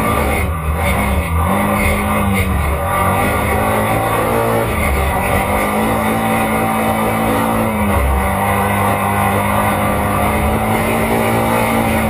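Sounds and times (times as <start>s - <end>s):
three-wheeler engine running under load: 0.0s - 12.0s.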